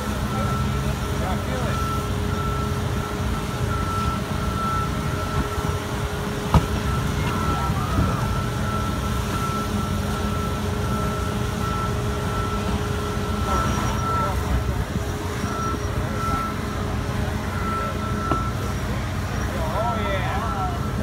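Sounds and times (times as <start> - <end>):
diesel machinery rumbling: 0.0 - 21.0
backup alarm beeping: 0.1 - 20.2.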